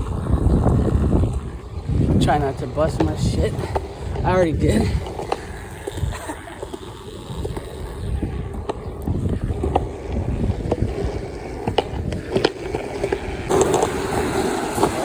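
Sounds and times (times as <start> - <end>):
skateboard wheels rolling on pavement: 0.0 - 15.0.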